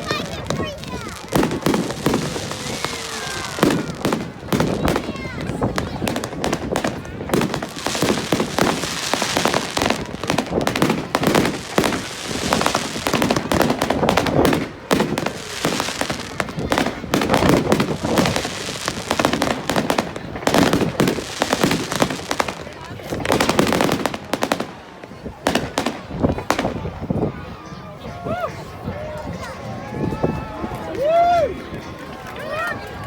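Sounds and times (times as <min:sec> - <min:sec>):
fireworks cracking and banging: 0:00.0 - 0:27.1.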